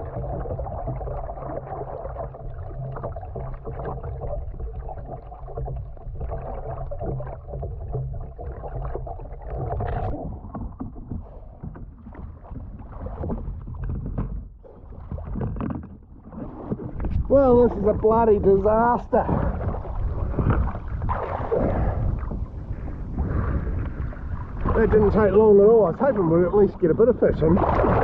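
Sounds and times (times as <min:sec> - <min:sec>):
low microphone rumble: 0:00.0 - 0:28.0
water sloshing around kayak: 0:00.0 - 0:28.0
water splash: 0:00.0 - 0:28.0.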